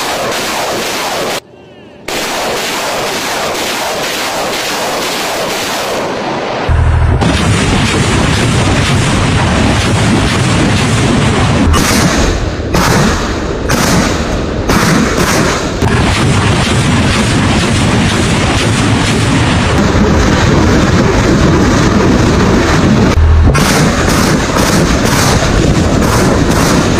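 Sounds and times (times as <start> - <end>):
rocket launcher salvo roar: 2.1 - 26.9.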